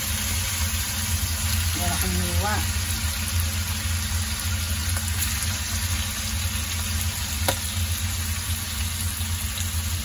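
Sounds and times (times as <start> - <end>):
chicken sizzling in oil: 0.0 - 10.0
constant low hum: 0.0 - 10.0.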